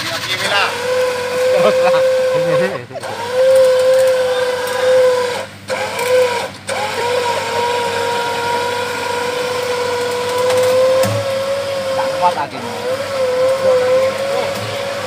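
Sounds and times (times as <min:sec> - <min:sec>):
electric winch motor whining: 0:00.0 - 0:15.0.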